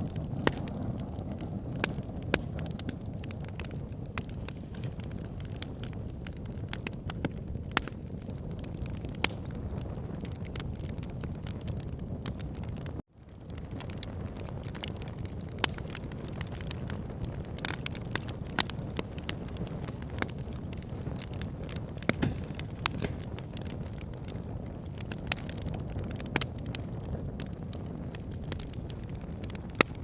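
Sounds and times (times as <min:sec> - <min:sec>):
fireplace fire crackling and popping: 0:00.0 - 0:30.0.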